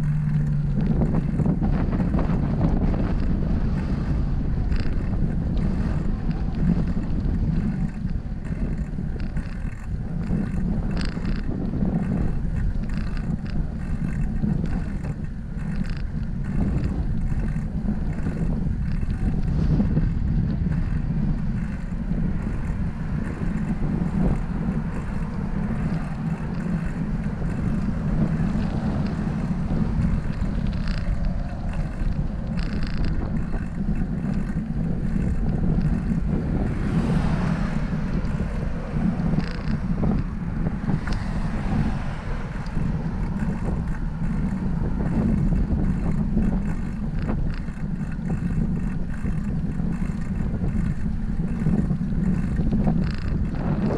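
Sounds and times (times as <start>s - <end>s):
faint clicks and knocks: 0.0s - 53.9s
wind buffeting microphone: 0.0s - 53.9s.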